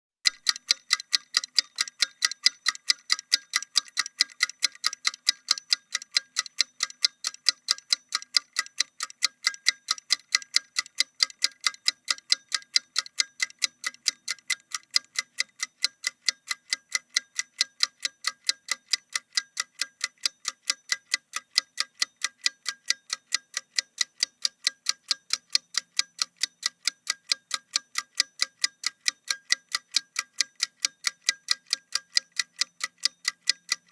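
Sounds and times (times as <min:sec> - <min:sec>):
timer clock ticking: 0:00.2 - 0:33.9.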